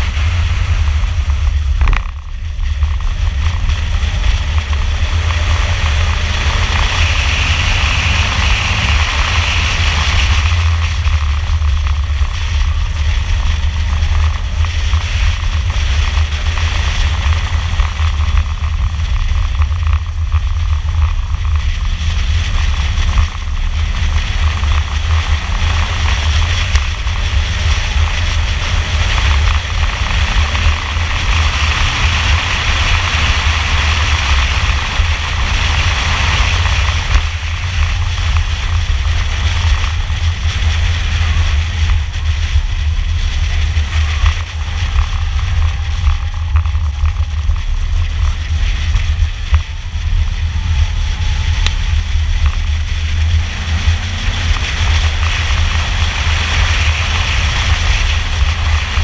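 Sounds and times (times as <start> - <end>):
car engine revving inside car: 0.0 - 59.0.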